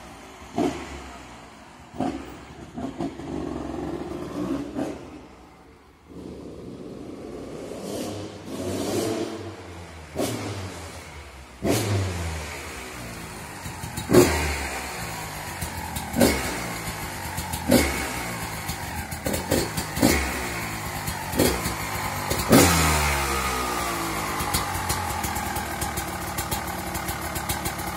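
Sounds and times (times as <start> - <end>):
two-stroke engine revving: 0.0 - 5.3, 6.1 - 27.9.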